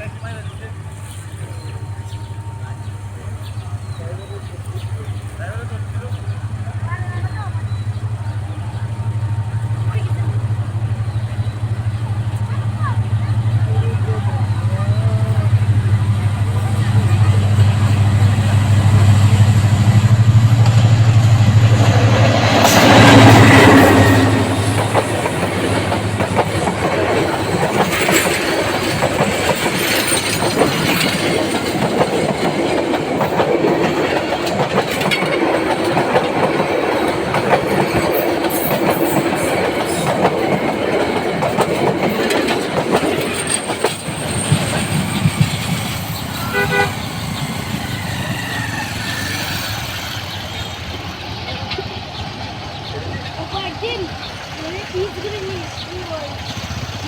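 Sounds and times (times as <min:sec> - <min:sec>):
locomotive engine hum: 0:00.0 - 0:57.0
train wheels clickety-clack: 0:00.0 - 0:57.0.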